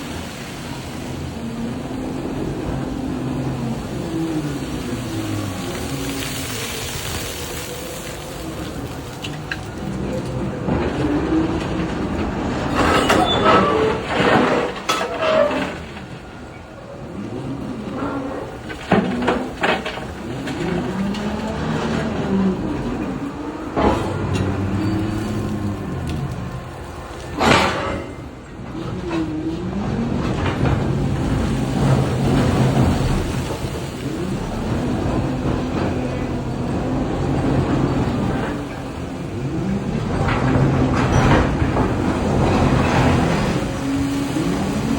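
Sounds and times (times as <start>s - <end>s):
excavator motors humming: 0.0s - 44.9s
heavy rumble of train loading: 0.0s - 44.9s.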